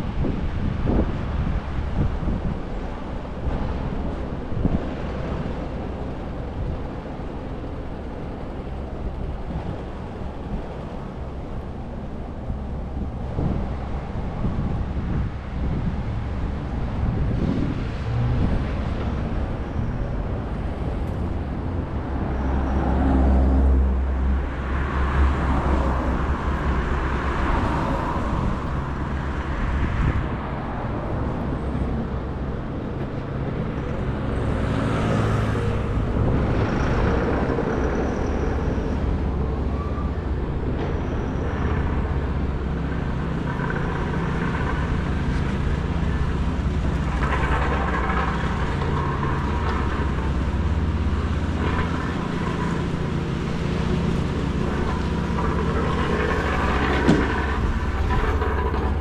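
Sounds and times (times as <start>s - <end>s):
road traffic passing: 0.0s - 59.0s
steady deep rumble: 0.0s - 59.0s.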